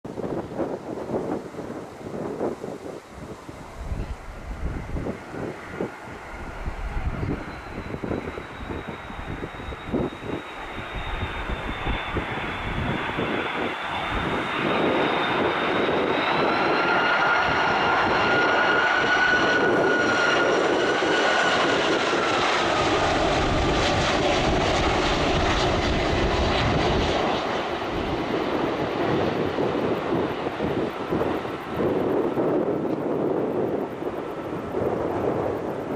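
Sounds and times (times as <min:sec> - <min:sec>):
jet engines roaring and whining: 0:00.1 - 0:35.9.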